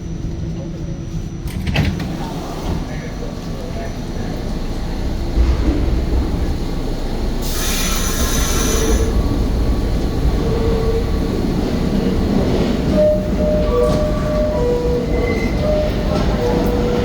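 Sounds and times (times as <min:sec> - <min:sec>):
subway wheels rumbling on rail: 0:00.0 - 0:17.0.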